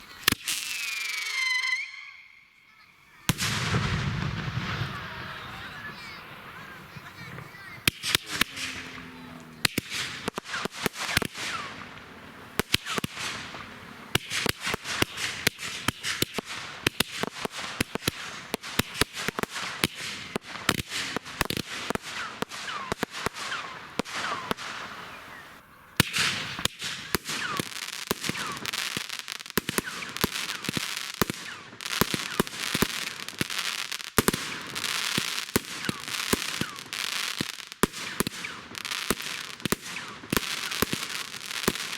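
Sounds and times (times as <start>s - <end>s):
fireworks bangs and crackling: 0.0s - 41.9s
fireworks whistles: 0.0s - 41.9s.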